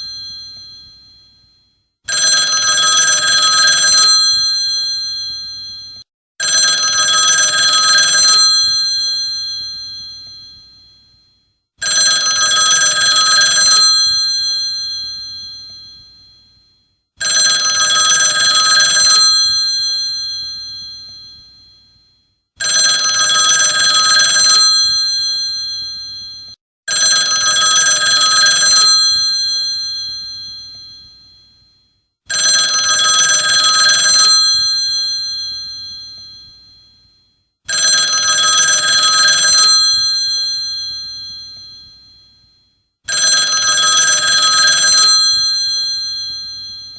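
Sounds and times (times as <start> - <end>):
old telephone bell ringing: 0.0 - 1.5, 2.1 - 11.2, 11.8 - 22.0, 22.6 - 37.1, 37.7 - 42.5, 43.1 - 46.9.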